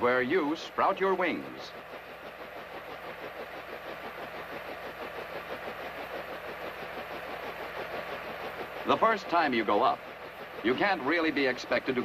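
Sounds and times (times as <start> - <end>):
helicopter engine and rotor pulsing: 0.0 - 12.0.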